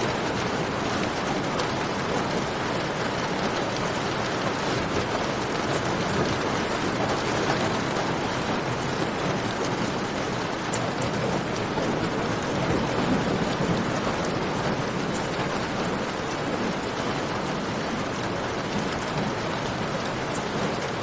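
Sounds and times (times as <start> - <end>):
rain pouring: 0.0 - 21.0.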